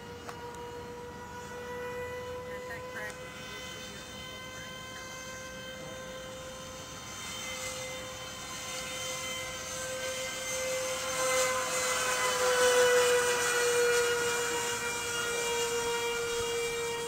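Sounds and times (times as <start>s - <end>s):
model plane engines whining: 0.0s - 17.0s.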